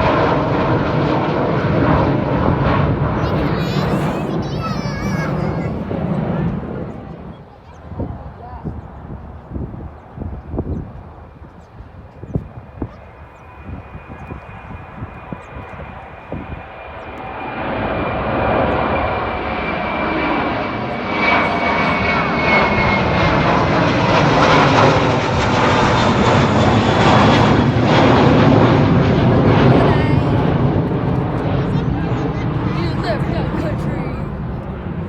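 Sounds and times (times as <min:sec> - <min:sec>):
jet engines on takeoff: 0:00.0 - 0:35.0.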